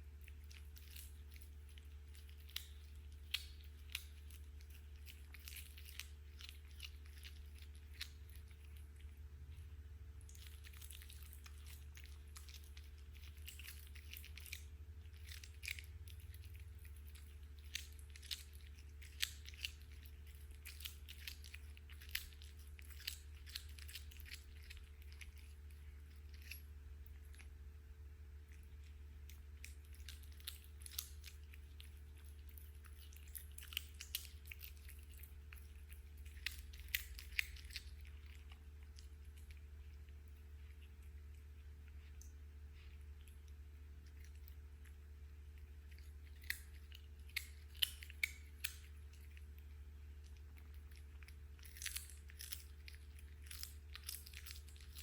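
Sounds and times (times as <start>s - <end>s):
cat chewing crunches: 0.0s - 55.0s
faint low hum: 0.0s - 55.0s.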